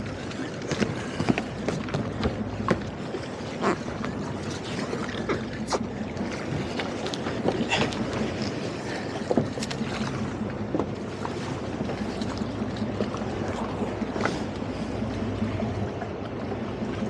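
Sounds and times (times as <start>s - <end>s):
boat engine humming: 0.0s - 17.0s
water slapping against hull: 0.0s - 17.0s.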